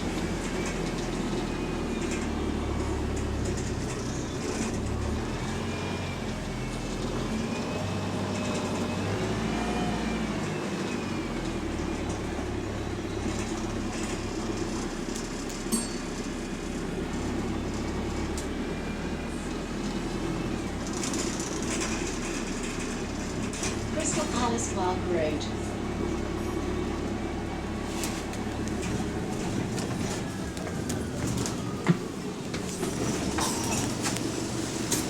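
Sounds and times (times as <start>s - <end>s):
bus body rattling: 0.0s - 9.1s, 10.3s - 35.0s
bus engine rumbling: 0.0s - 35.0s
faint drivetrain whine: 0.0s - 35.0s.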